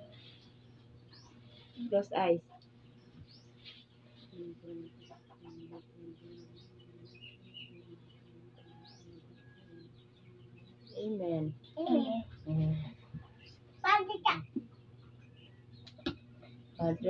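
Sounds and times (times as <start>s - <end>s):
faint chicken clucking: 0.0s - 17.0s
small bird chirps: 0.0s - 17.0s
steady low hum: 0.0s - 17.0s.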